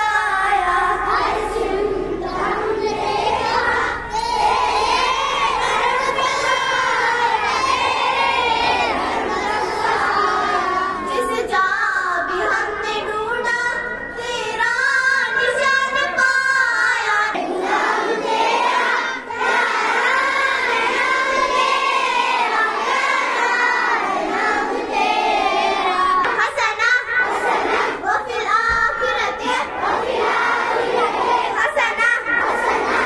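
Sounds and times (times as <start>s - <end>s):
children singing in unison: 0.0s - 33.0s.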